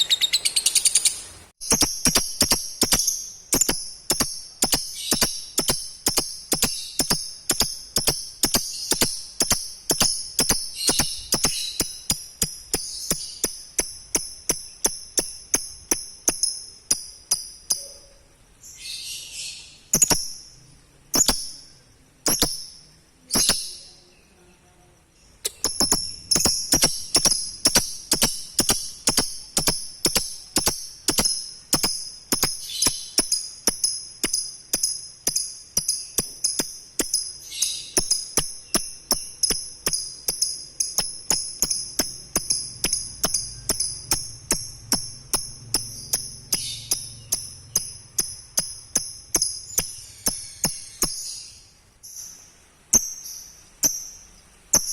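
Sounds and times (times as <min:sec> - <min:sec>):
bird chirping shrilly: 0:00.0 - 0:23.9, 0:25.4 - 0:52.4
lovebird high-pitched chattering: 0:00.0 - 0:24.1, 0:25.3 - 0:54.9
sharp ticking beat: 0:01.6 - 0:18.2, 0:20.0 - 0:20.6, 0:21.2 - 0:23.8, 0:25.4 - 0:51.2, 0:53.8 - 0:54.9.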